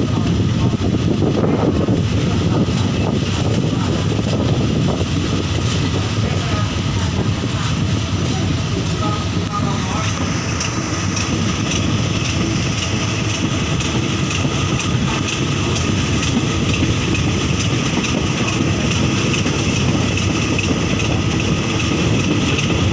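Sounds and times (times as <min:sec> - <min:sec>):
diesel train engine: 0:00.0 - 0:22.9
train wheels clicking on rails: 0:01.4 - 0:22.9.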